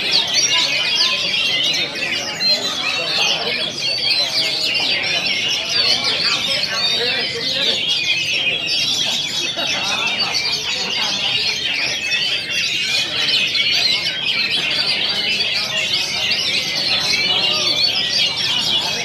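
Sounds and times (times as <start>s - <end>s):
chorus of songbirds: 0.0s - 19.0s.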